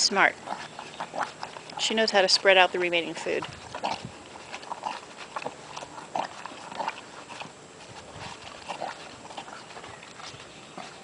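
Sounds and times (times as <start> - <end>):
horse crunching feed: 0.0 - 11.0.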